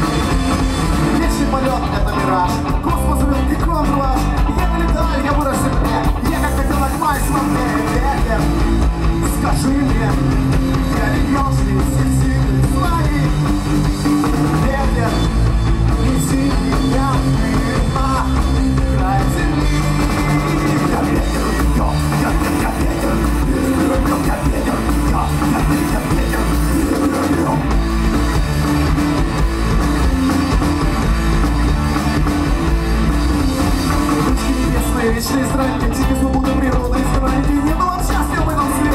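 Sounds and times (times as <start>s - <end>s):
rock music: 0.0s - 38.9s.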